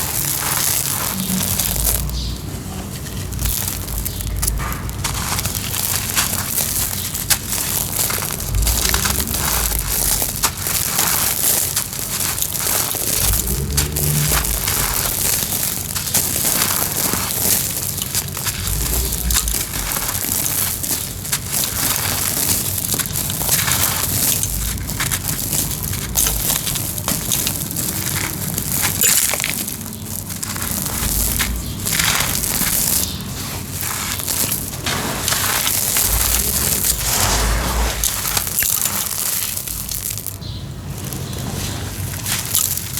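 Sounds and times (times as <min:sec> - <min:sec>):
cement crushing and crumbling: 0:00.0 - 0:42.9.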